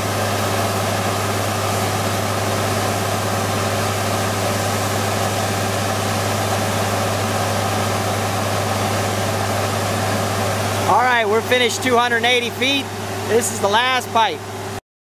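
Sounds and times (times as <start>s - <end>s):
drilling rig engine drone: 0.0s - 14.8s.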